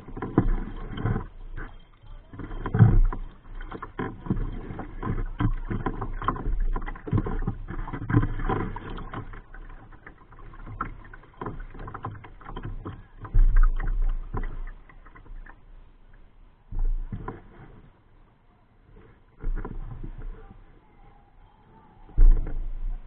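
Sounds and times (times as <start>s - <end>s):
small irregular knocks: 0.0s - 17.8s, 19.3s - 20.4s
water lapping against kayak hull: 0.0s - 23.0s.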